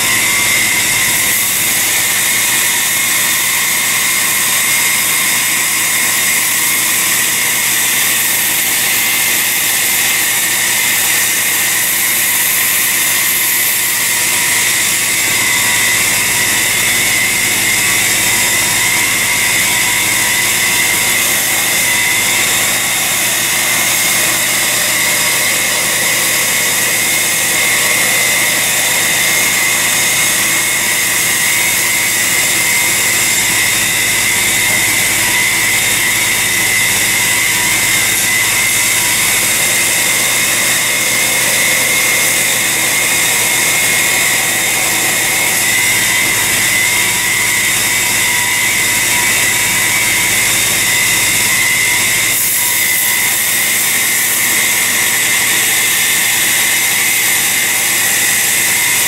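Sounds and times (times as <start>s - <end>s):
belt grinder grinding steel: 0.0s - 59.0s.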